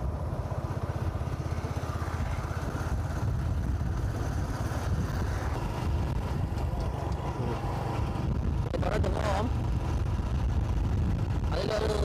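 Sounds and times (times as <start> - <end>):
motorcycle engine rumbling: 0.0 - 12.0
road noise: 0.0 - 12.0.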